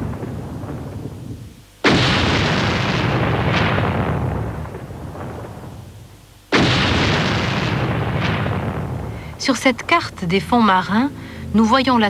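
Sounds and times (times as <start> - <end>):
light cracks: 0.0 - 10.0
booms with rumble: 0.0 - 11.8.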